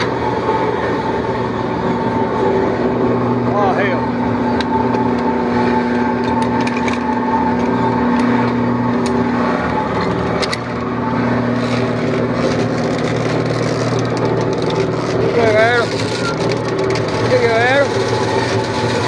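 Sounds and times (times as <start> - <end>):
machinery engine drone: 0.0 - 19.0.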